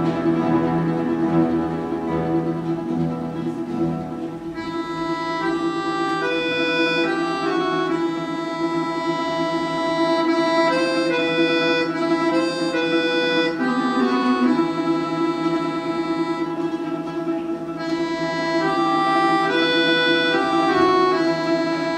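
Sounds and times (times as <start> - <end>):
button accordions playing slow chords: 0.0 - 21.9.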